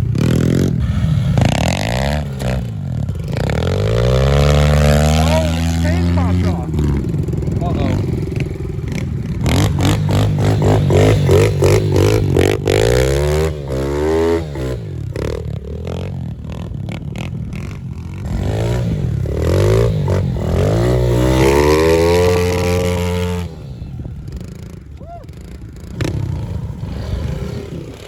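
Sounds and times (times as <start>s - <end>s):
motorbike engine revving: 0.0s - 28.0s.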